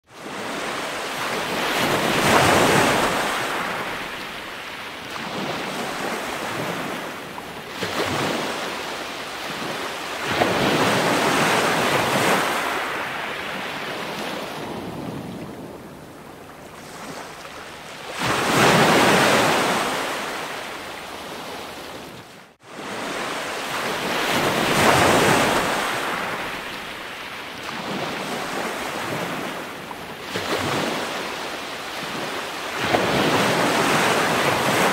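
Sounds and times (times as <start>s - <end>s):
ocean waves washing in: 0.1s - 34.9s.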